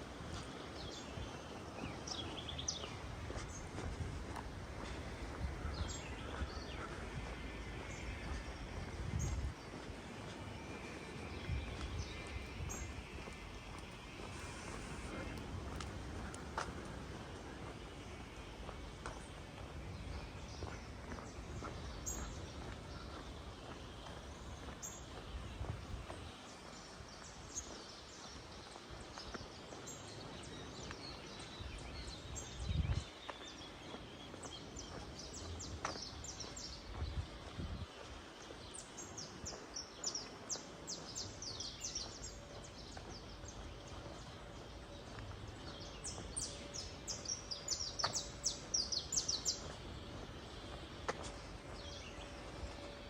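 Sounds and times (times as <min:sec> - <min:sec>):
outdoor background noise: 0:00.0 - 0:53.0
small birds chirping: 0:00.0 - 0:53.0.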